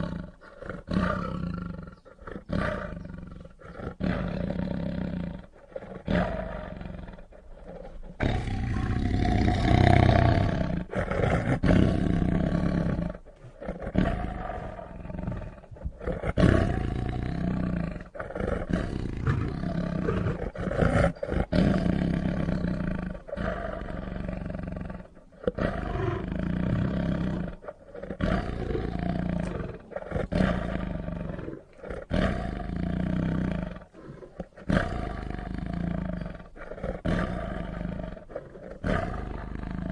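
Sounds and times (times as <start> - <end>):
lion roaring: 0.0 - 39.9.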